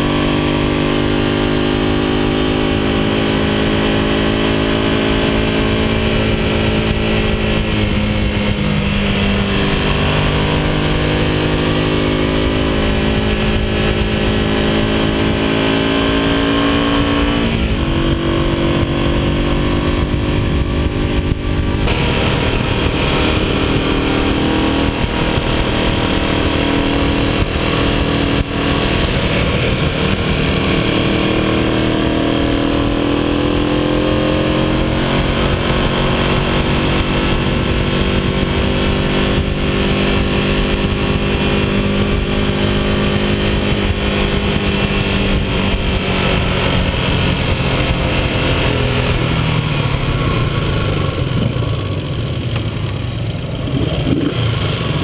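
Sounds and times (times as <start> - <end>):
motorcycle engine running: 0.0 - 55.0
steady wind noise: 0.0 - 55.0.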